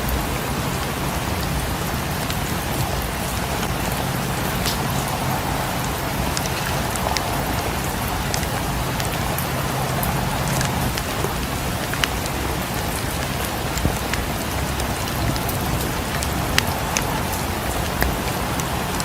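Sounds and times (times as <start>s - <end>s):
steady rain falling: 0.0s - 19.0s
wood fire crackles: 1.4s - 19.0s.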